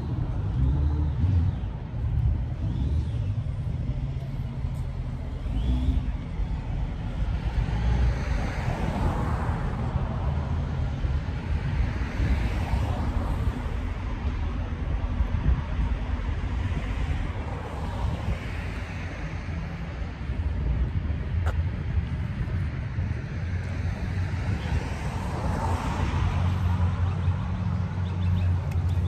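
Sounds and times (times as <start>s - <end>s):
car engine rumbling: 0.0s - 29.0s.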